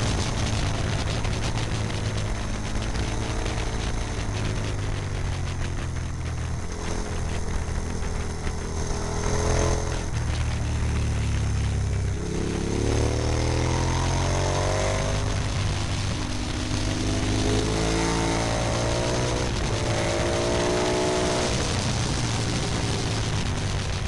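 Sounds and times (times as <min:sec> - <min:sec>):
motorcycle engine revving: 0:00.0 - 0:24.0
wind rushing over microphone: 0:00.0 - 0:24.0.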